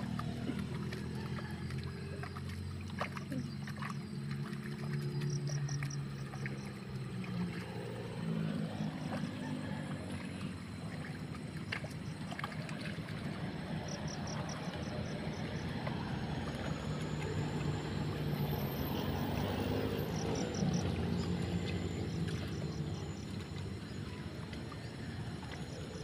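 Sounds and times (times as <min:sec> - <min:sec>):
small engine humming: 0:00.0 - 0:26.0.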